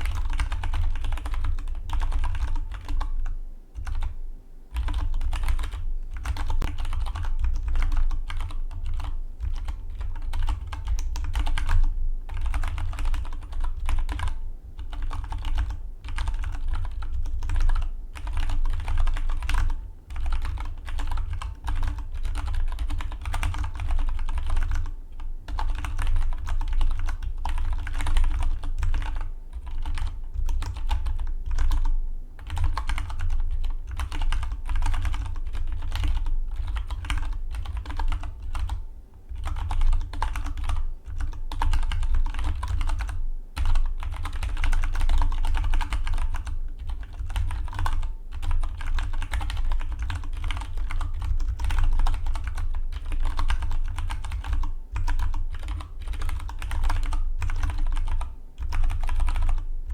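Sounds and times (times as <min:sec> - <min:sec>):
mechanical keyboard typing: 0:00.0 - 0:03.1, 0:03.8 - 0:24.9, 0:25.5 - 0:59.9.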